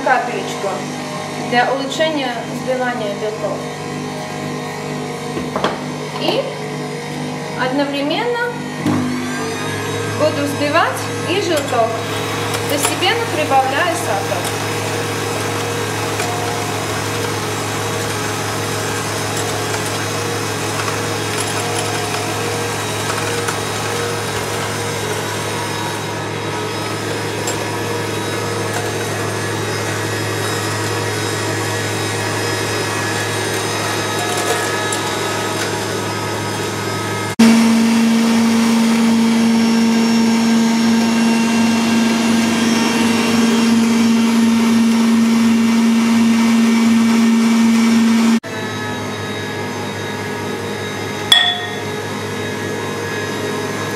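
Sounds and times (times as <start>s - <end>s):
hand mixer beating: 0.0s - 53.9s
stand mixer whipping: 2.4s - 7.6s, 8.6s - 53.9s.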